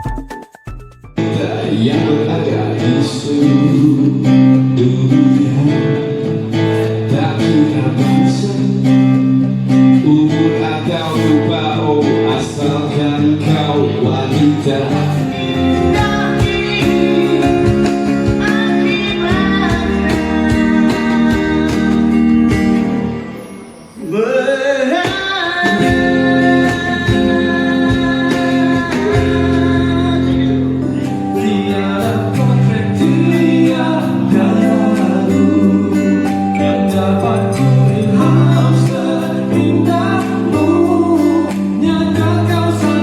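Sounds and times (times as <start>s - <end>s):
guitar: 0.0s - 43.0s
person singing: 1.2s - 43.0s.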